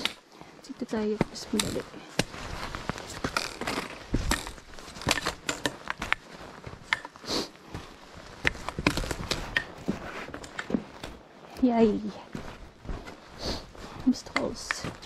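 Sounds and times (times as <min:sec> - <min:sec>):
clothing rustling: 0:00.0 - 0:15.0
footsteps scrambling over rock: 0:00.0 - 0:15.0.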